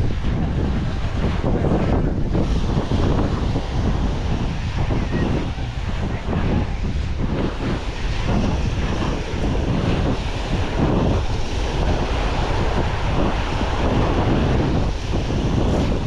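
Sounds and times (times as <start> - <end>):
waves breaking on beach: 0.0 - 16.0
wind buffeting microphone: 0.0 - 16.0.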